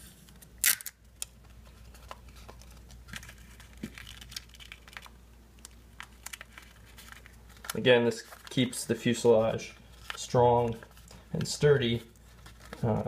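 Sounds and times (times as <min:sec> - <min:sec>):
paper and tape crinkling: 0:00.0 - 0:13.0.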